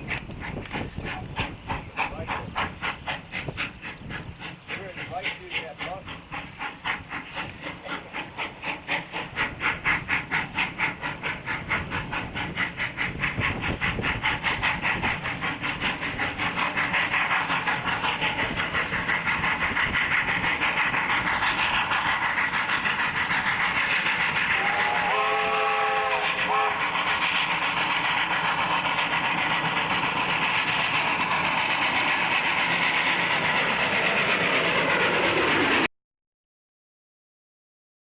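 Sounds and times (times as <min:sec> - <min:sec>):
steam locomotive exhaust chuffs: 0:00.0 - 0:35.9.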